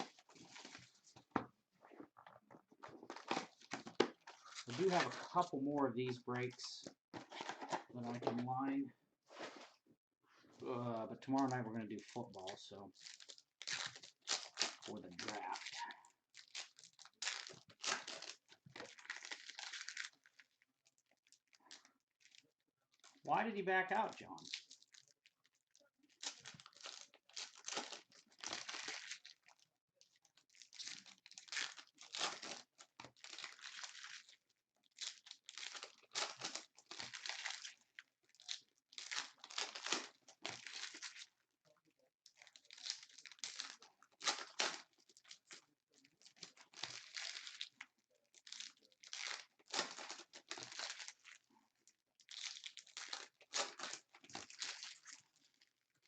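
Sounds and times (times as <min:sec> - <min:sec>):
wrappers tearing and crinkling: 0:02.9 - 0:06.2, 0:11.2 - 0:25.1, 0:25.7 - 0:41.4, 0:42.2 - 0:56.0.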